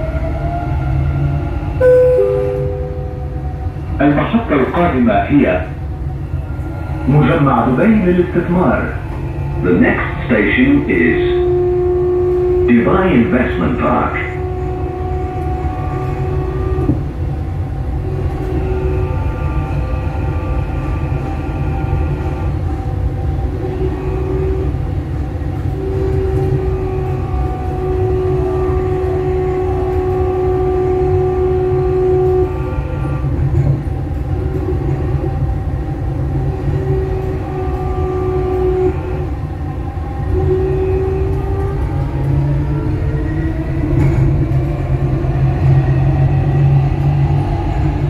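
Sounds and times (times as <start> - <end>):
whining tones: 0.0 - 5.0, 6.1 - 48.0
train rumbling on track: 0.0 - 48.0.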